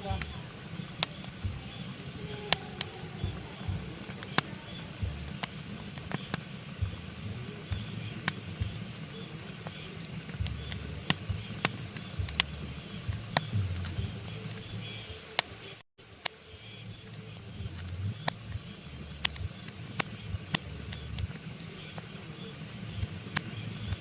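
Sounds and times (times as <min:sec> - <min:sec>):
flames rumbling and hissing: 0:00.0 - 0:24.0
wood fire crackling and popping: 0:00.0 - 0:24.0.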